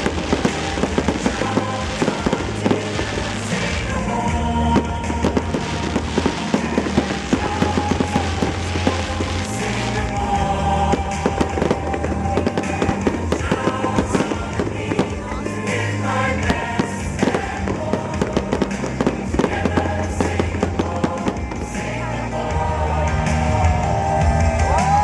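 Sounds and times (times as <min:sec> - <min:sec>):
fireworks bangs and crackles: 0:00.0 - 0:23.8
patriotic songs playing: 0:00.0 - 0:25.0.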